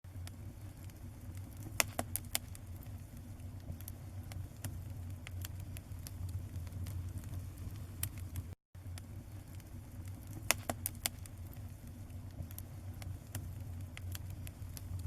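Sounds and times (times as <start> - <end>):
fire crackling and popping: 0.1 - 15.0.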